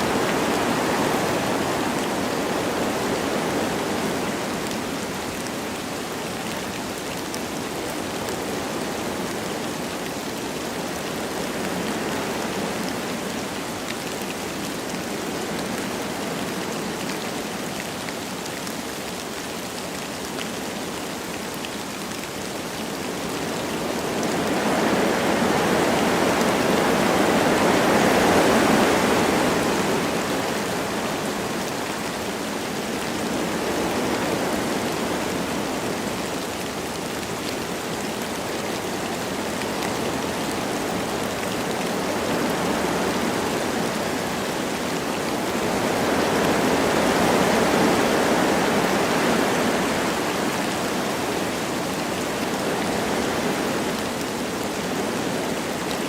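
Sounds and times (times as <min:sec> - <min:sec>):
wind through trees: 0:00.0 - 0:56.0.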